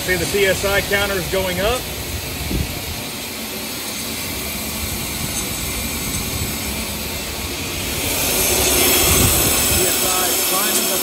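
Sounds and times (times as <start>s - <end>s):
gas hissing through fuel hose: 0.0s - 11.0s.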